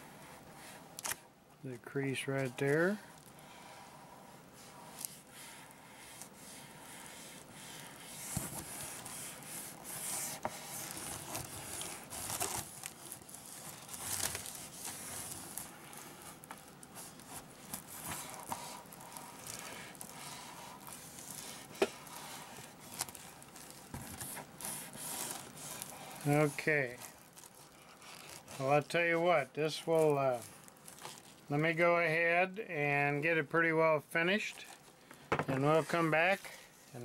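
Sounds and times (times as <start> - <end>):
plastic film crinkling and scraping: 2.1 - 4.0, 4.6 - 32.6, 34.3 - 37.0.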